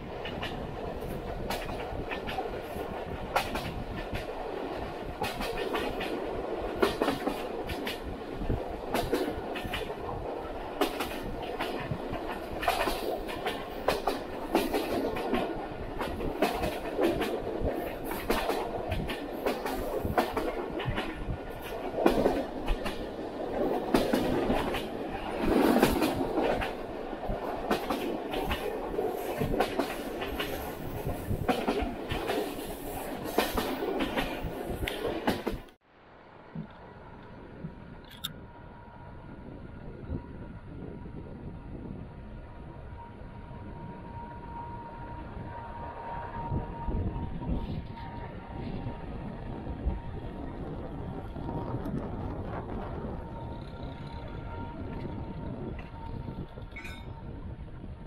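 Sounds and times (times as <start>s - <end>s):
train carriage rumbling: 0.0s - 58.0s.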